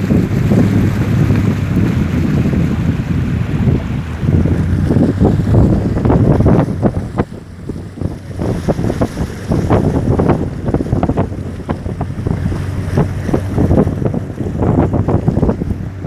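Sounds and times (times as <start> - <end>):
outboard motor humming: 0.0 - 16.0
water splashing: 0.0 - 16.0
wind buffeting microphone: 0.0 - 16.0.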